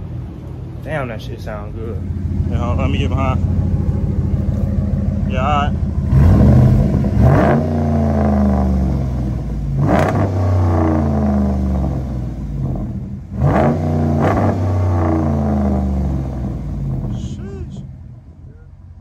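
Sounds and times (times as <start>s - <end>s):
engine revving: 1.0s - 18.1s.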